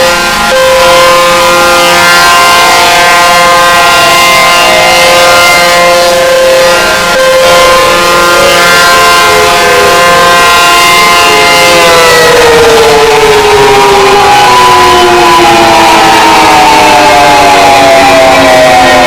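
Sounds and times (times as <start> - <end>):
tornado warning siren: 0.0 - 19.0.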